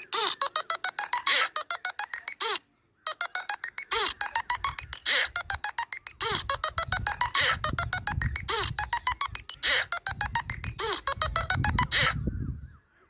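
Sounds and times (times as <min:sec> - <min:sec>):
electronic ringtone clicks and bleeps: 0:00.0 - 0:12.2.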